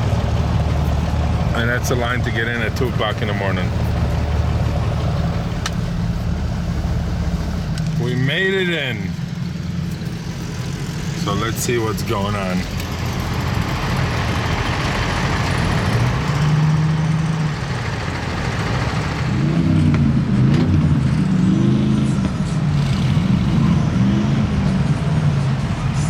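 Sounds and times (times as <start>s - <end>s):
engine revving: 0.0s - 26.0s
vehicle engines running: 0.0s - 26.0s.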